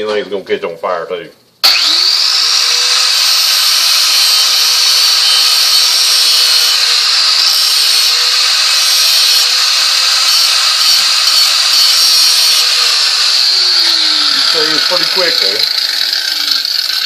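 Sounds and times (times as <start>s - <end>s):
angle grinder grinding steel: 1.6s - 17.0s.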